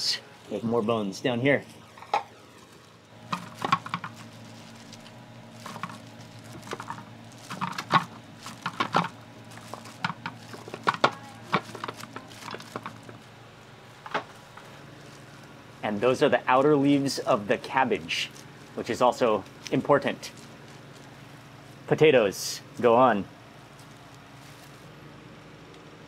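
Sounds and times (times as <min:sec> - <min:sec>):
plastic bag and gloves crinkling: 0:00.0 - 0:25.6
faint low hum: 0:00.0 - 0:26.0.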